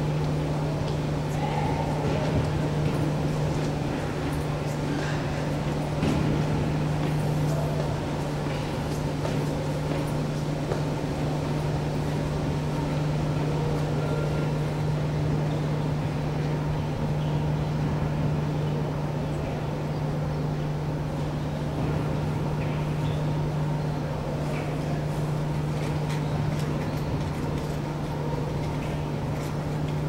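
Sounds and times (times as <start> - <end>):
gymnasium background noise: 0.0 - 30.0
steady low hum: 0.0 - 30.0.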